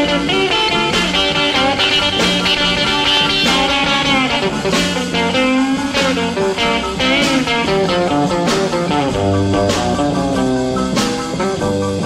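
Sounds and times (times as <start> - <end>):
electric guitar lead: 0.0 - 12.0
rock and roll music: 0.0 - 12.0.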